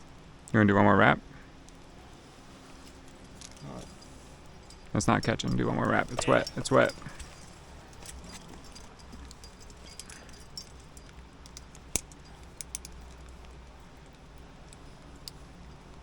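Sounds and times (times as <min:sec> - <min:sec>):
metal climbing gear clinking: 0:01.5 - 0:16.0.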